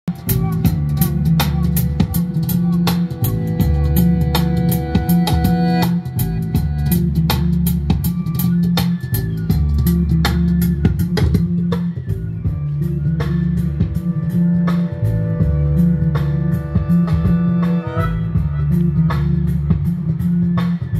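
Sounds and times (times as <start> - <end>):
guitar bass and drum music: 0.1 - 20.9.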